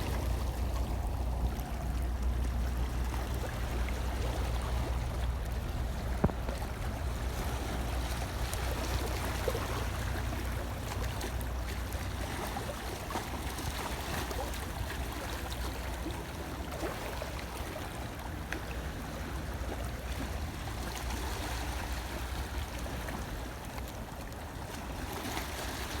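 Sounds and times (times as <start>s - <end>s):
sea water washing and surging: 0.0s - 26.0s.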